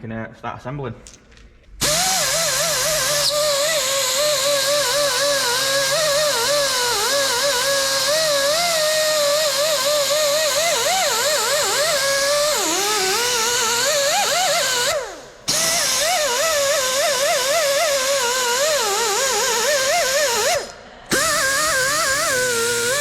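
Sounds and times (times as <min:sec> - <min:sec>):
air-powered wire wheel whining: 0:01.8 - 0:23.0.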